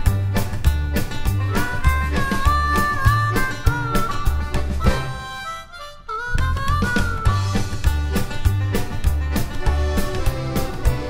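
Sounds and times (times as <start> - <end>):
steady drum beat: 0.0 - 5.2, 6.4 - 11.0
bass: 0.0 - 11.0
guitar melody: 0.0 - 11.0.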